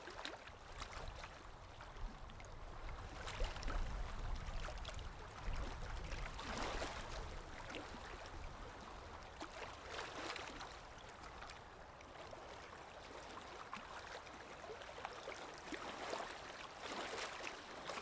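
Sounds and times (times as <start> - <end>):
small water splashes: 0.0 - 18.0
stream of water babbling: 0.0 - 18.0.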